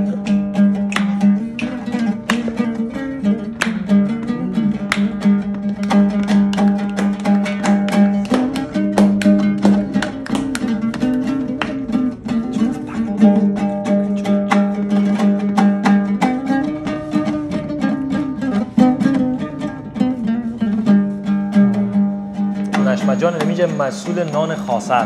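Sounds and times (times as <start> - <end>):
plucked guitar music: 0.0 - 25.0.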